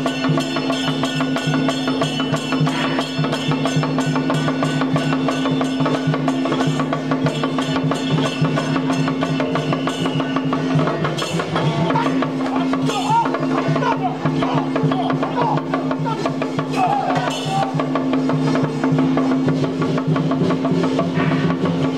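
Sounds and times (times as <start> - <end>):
fast percussion strokes: 0.0 - 21.9.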